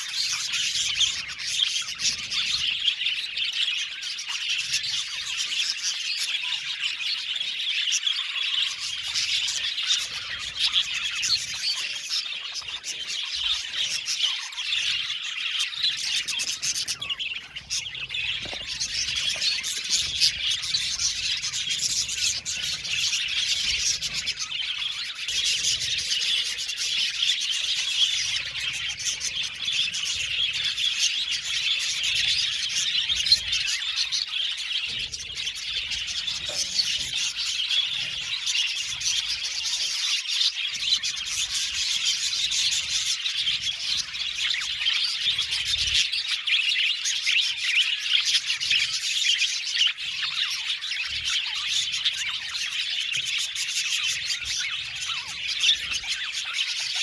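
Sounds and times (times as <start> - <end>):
flock of budgies chattering: 0.0 - 57.0.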